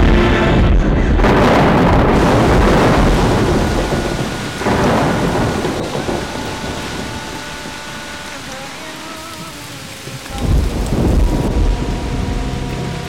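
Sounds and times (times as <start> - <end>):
heavy rain: 0.0 - 13.0
rolling thunder: 0.0 - 13.0.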